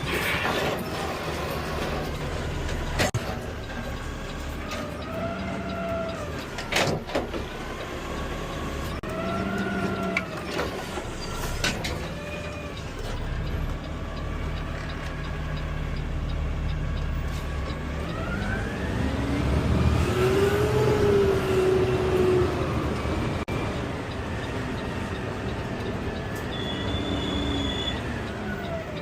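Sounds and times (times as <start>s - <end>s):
truck engine humming: 0.0s - 29.0s.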